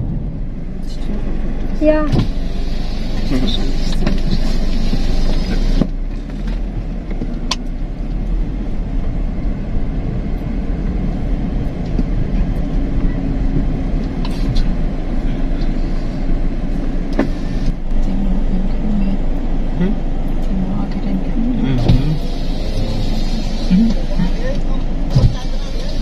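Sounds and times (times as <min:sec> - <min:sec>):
car engine: 0:00.0 - 0:26.0
road noise: 0:00.0 - 0:26.0.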